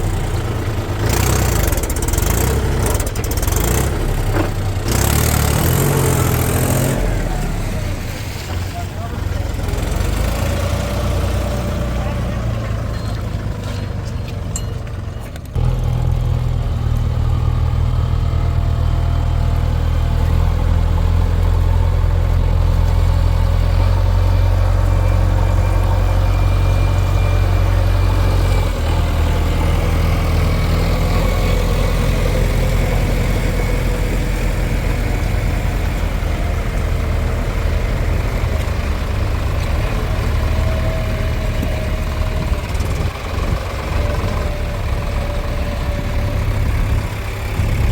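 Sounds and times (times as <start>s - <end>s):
diesel machinery engine running: 0.0s - 47.9s.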